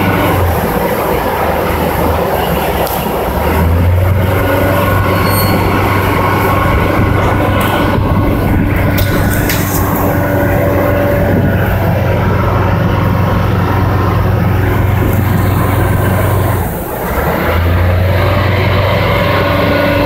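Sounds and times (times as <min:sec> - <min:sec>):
ferry engines droning: 0:00.0 - 0:20.0.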